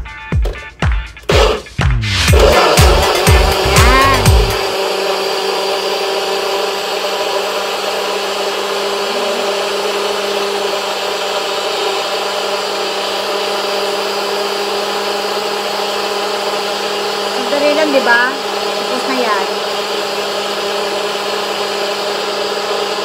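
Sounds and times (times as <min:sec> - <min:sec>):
blender motor running: 0:01.3 - 0:23.0.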